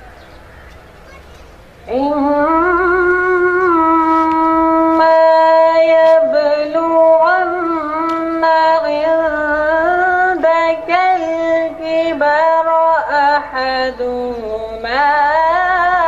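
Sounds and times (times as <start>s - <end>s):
person reciting melodically: 1.0s - 16.0s.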